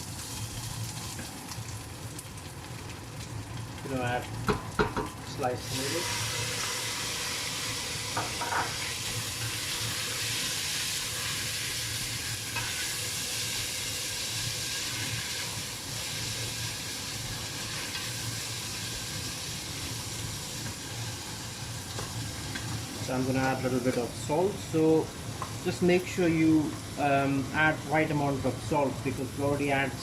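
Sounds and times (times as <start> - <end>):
masala sizzling in hot oil: 0.0 - 30.0.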